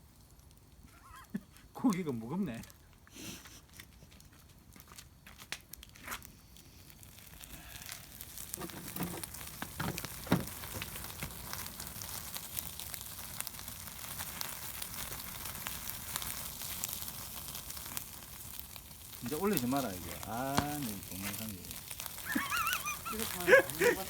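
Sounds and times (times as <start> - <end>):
fire crackles: 0.0 - 24.0
meat sizzling over fire: 0.0 - 24.0.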